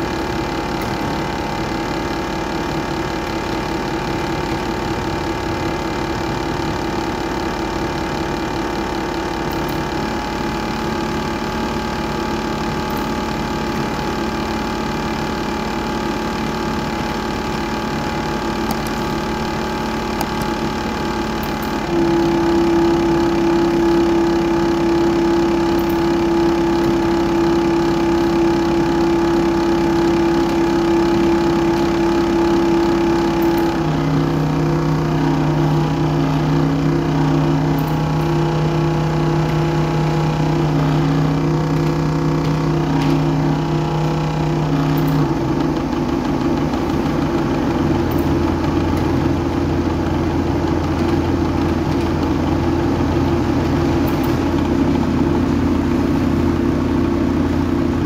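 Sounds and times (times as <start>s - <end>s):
small motor humming: 0.0s - 57.1s.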